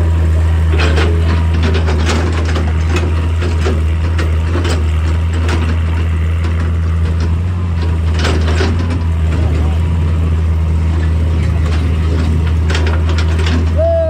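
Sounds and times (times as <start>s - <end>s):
rock and metal clattering: 0.0s - 13.8s
diesel engine humming: 0.0s - 14.0s.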